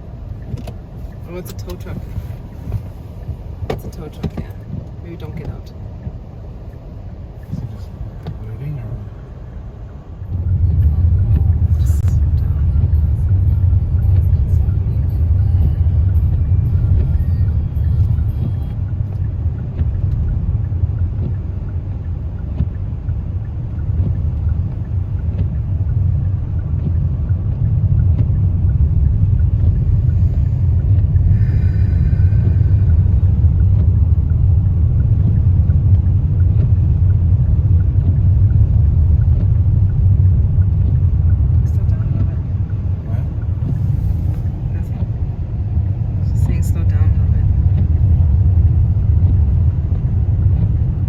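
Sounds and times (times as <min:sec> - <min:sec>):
car engine and tyre noise: 0:00.0 - 0:51.0.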